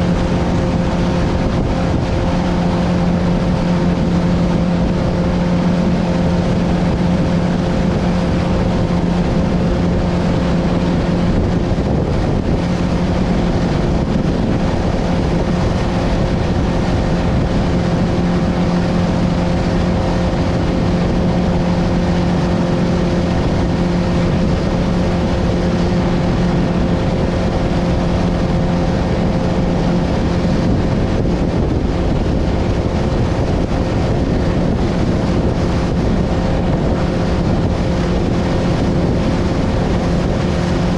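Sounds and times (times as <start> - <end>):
motorboat engine drone: 0.0 - 40.9
rushing water: 0.0 - 40.9
wind on microphone: 0.0 - 40.9.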